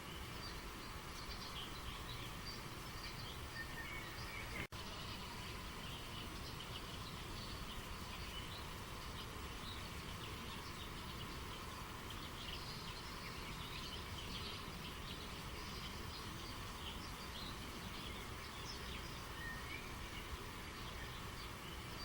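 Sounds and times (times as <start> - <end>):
small birds chirping: 0.0 - 22.0
stream water flowing: 0.0 - 22.0.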